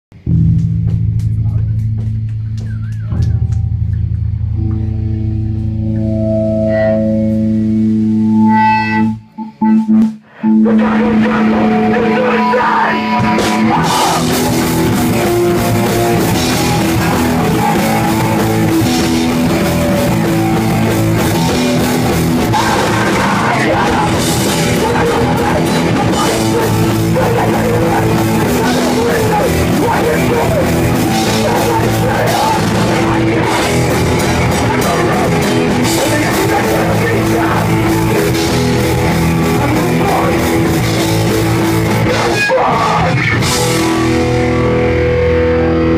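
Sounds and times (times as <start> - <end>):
rock band playing live: 0.1 - 45.9.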